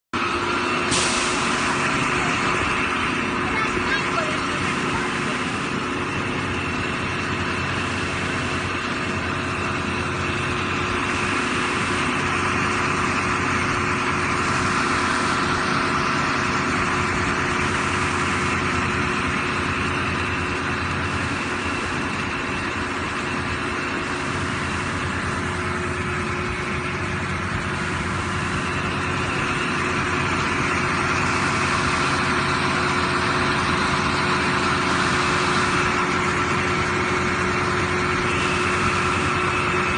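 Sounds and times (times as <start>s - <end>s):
truck diesel engine idling: 0.2s - 39.9s.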